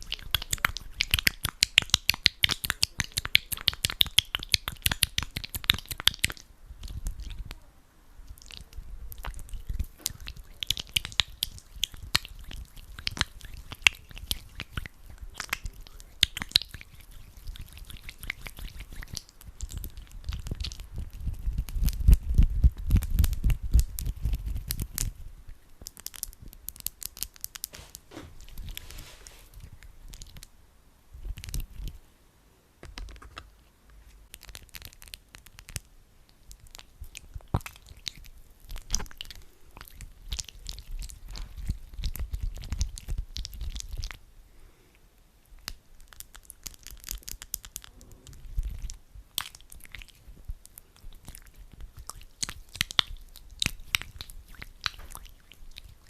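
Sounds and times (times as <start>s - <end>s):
hands rubbing sticky gel: 0.0s - 7.6s, 8.3s - 30.5s, 32.8s - 44.2s, 45.6s - 56.0s.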